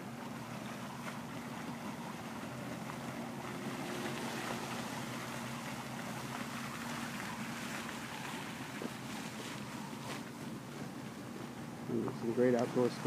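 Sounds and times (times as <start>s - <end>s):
fountain spray splashing: 0.0s - 13.0s
low hum: 0.0s - 13.0s.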